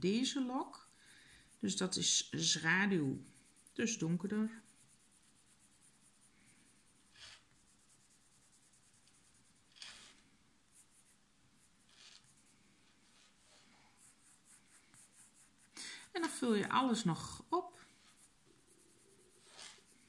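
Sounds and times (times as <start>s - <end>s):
pencil scratching on paper: 0.1s - 20.0s.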